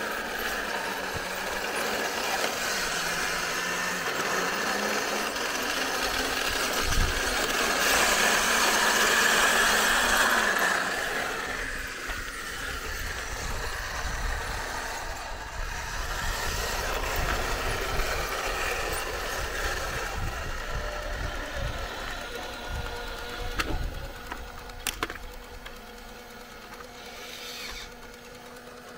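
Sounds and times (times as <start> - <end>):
model tank motor running: 0.0 - 28.9.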